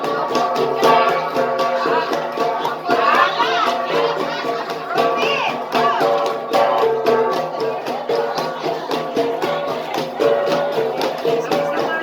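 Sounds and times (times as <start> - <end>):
bronze gongs struck rhythmically: 0.0 - 12.0
voices: 0.0 - 12.0.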